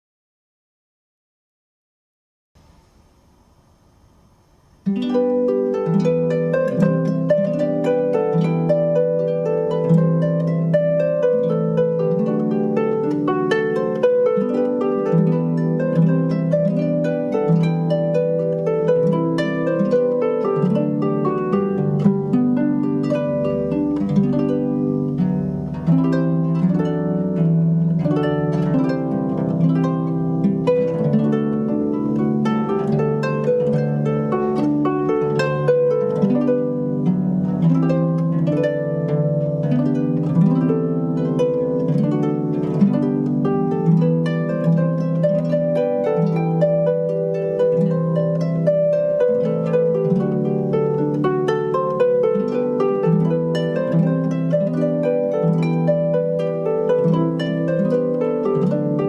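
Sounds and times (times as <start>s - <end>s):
harp-like plucked arpeggios: 4.8s - 59.0s.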